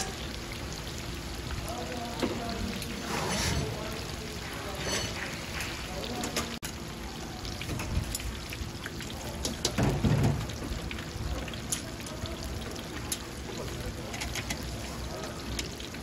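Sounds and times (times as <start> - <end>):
fritters deep-frying in oil: 0.0 - 16.0.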